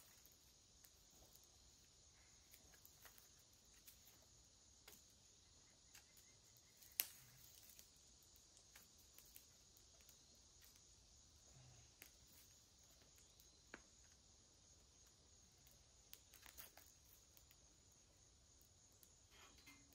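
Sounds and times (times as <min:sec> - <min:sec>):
campfire clicks and snaps: 0:00.0 - 0:19.9.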